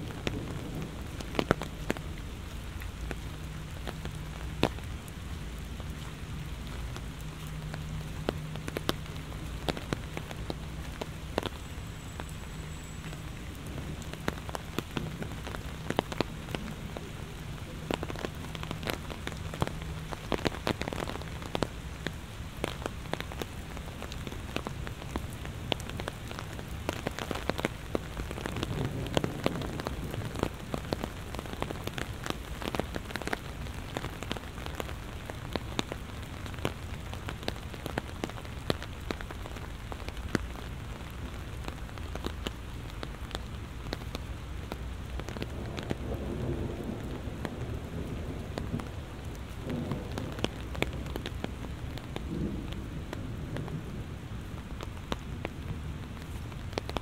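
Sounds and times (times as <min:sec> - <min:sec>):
heavy rain: 0:00.0 - 0:57.0
raindrops ticking: 0:00.0 - 0:57.0.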